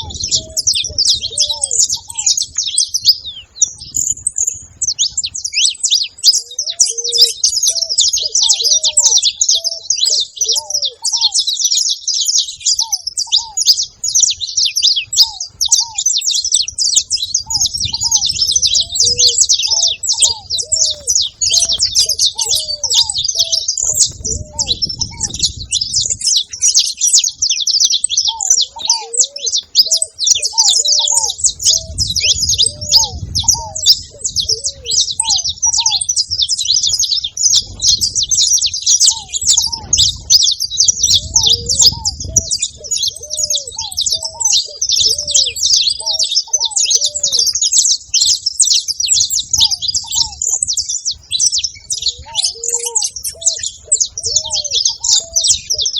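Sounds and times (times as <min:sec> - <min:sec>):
finches chirping and singing: 0:00.0 - 0:55.9
lower-pitched bird call: 0:00.0 - 0:55.9.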